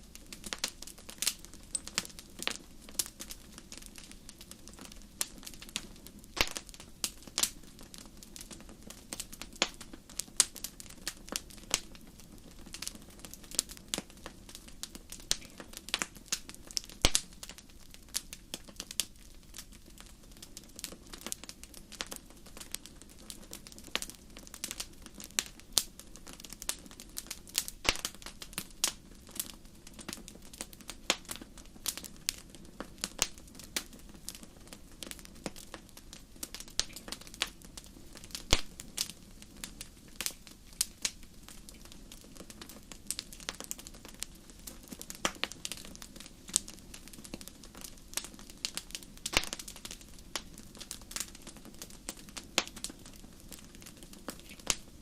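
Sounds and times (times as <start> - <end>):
campfire crackling: 0.0 - 55.0
low rumble of fire: 0.0 - 55.0.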